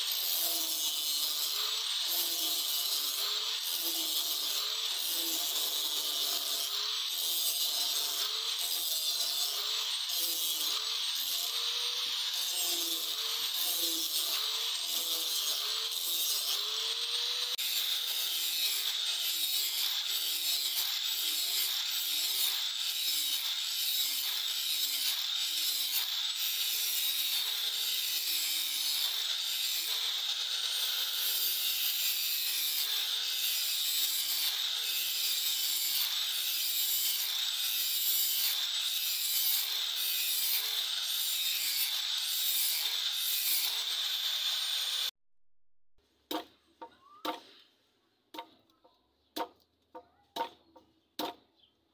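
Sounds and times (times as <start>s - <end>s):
angle grinder grinding steel: 0.0s - 45.1s.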